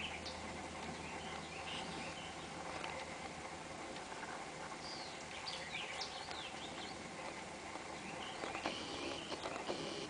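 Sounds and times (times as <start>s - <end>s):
birds chirping: 0.0s - 10.0s
steady outdoor hiss: 0.0s - 10.0s.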